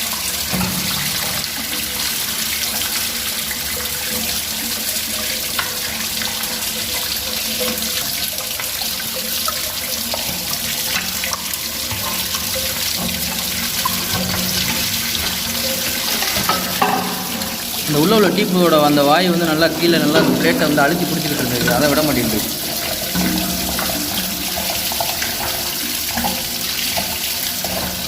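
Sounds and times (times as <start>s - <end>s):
water pouring from a tank: 0.0s - 28.0s.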